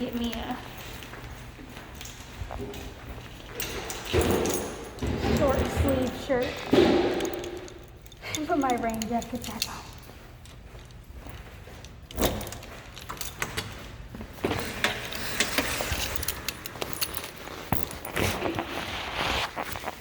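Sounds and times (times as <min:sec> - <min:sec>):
light jangling: 0:00.0 - 0:18.4.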